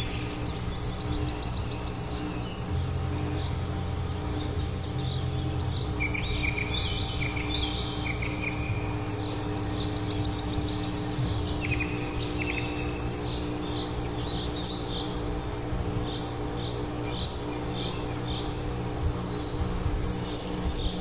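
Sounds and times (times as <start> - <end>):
songbirds chirping and singing: 0.0 - 21.0
steady low hum: 0.0 - 21.0.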